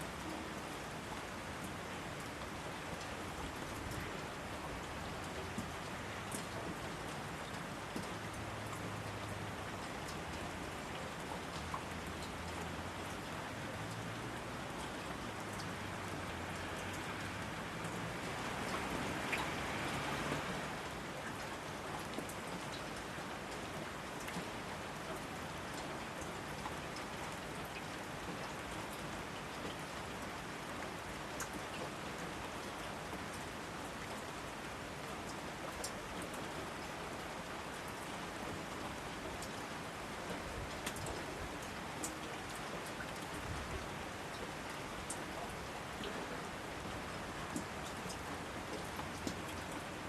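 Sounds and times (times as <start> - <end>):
raindrops ticking close by: 0.0 - 50.0
steady rain hiss: 0.0 - 50.0.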